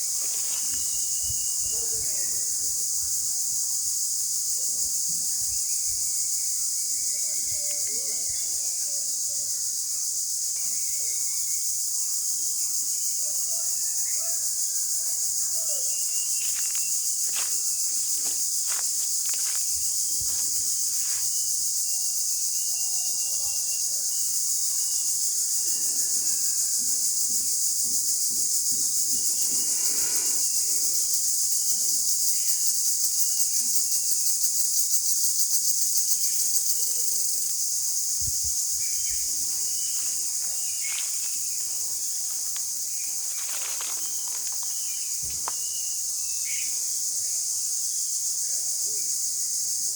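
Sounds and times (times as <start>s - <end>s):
insect chorus shrill hiss: 0.0s - 49.9s.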